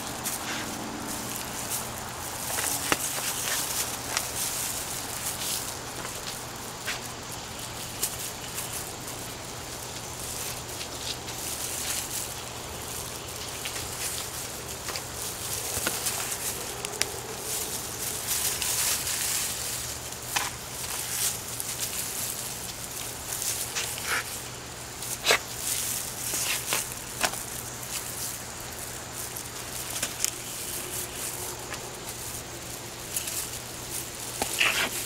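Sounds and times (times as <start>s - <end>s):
hands digging in soil: 0.0s - 35.0s
small clicks and crackles: 0.0s - 35.0s.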